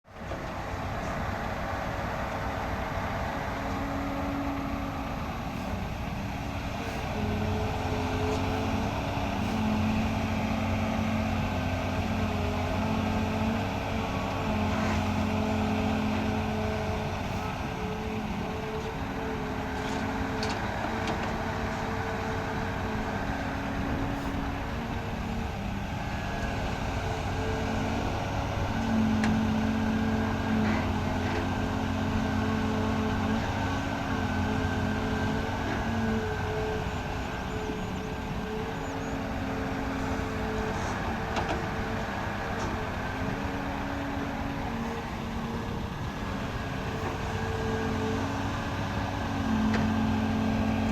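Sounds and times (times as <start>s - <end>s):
excavator diesel engine working: 0.0s - 50.9s.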